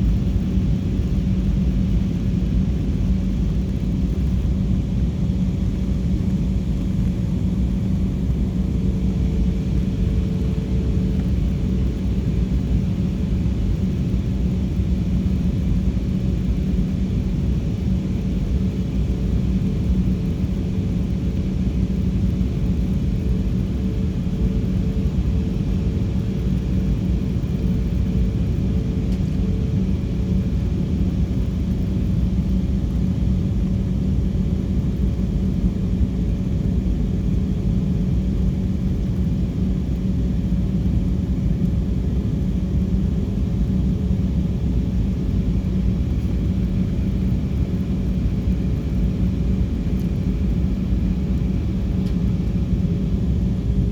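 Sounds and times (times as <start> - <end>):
airliner engines and airflow rumble: 0.0 - 53.9
constant low hum: 0.0 - 53.9.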